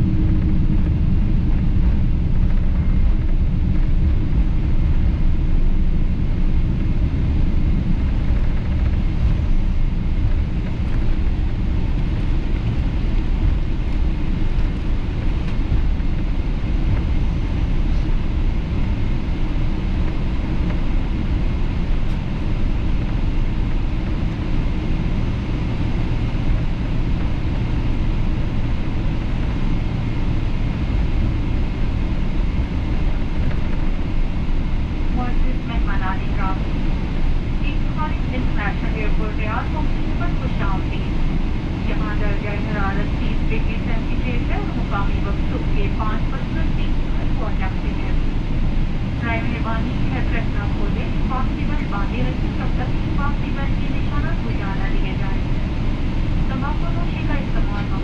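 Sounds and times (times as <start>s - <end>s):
aircraft engine noise: 0.0s - 58.0s.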